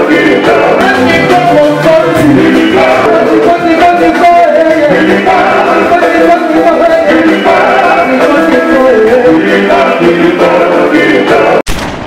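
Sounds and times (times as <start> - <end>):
song with singing voice: 0.0 - 11.7.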